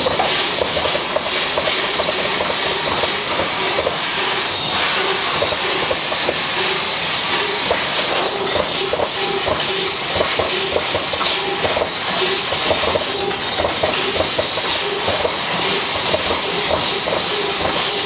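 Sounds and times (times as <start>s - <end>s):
laser cutter gas hiss: 0.0s - 18.0s.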